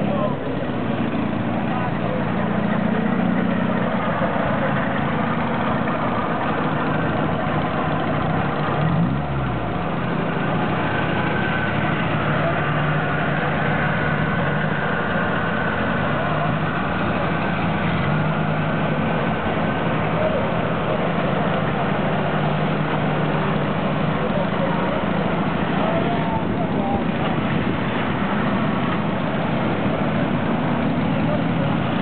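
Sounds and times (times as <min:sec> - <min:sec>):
car engines idling: 0:00.0 - 0:32.0.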